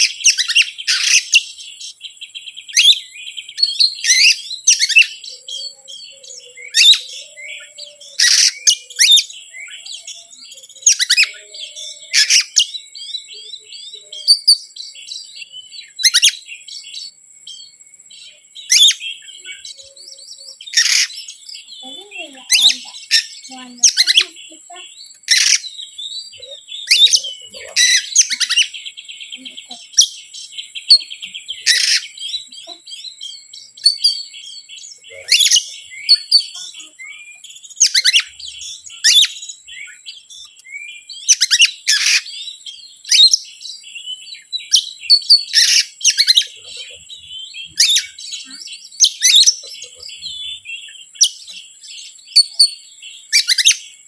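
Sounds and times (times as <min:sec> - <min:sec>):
magpie-robin singing: 0:00.0 - 0:54.0
soft bird chattering: 0:00.0 - 0:54.0.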